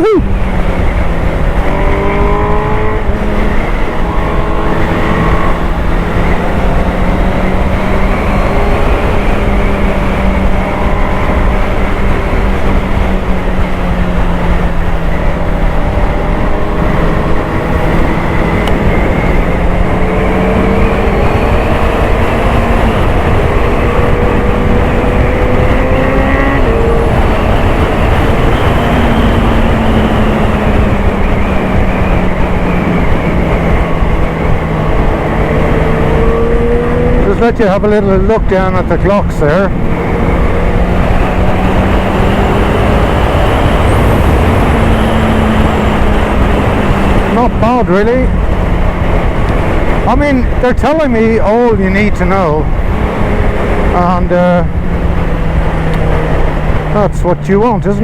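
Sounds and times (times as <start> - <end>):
motorcycle engine running: 0.0 - 58.0
riding wind rush: 0.0 - 58.0.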